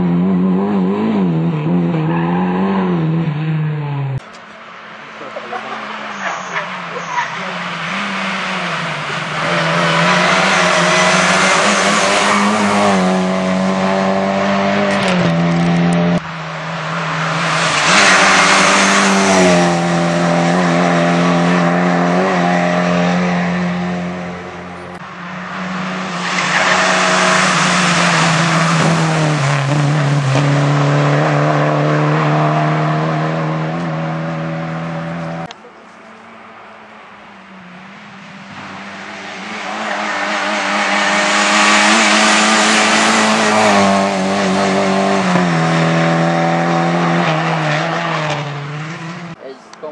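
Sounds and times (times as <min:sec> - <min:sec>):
car engine at high revs: 0:00.0 - 0:49.9
rushing tyre and road noise: 0:00.0 - 0:49.9.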